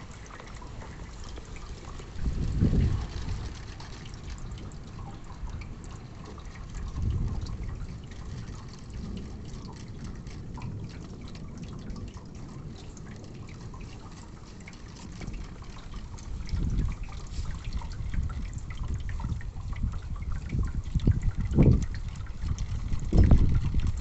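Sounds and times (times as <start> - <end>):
rain drops pattering: 0.0 - 24.0
water dripping and trickling: 0.0 - 24.0.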